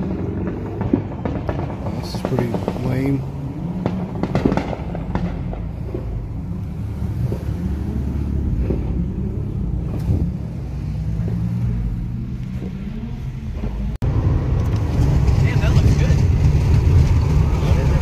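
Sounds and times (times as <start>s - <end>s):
car engines rumbling at low revs: 0.0s - 18.0s.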